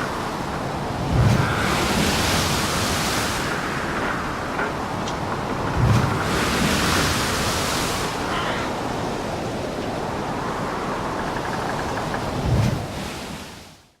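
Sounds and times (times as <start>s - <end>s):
wind rushing: 0.0s - 13.4s
breaking waves: 0.0s - 13.8s.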